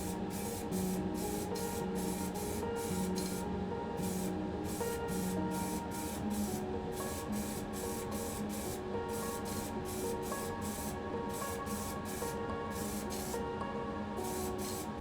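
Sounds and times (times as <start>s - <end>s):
hissy beat: 0.0s - 13.5s, 14.2s - 15.0s
background music with held notes: 0.0s - 15.0s.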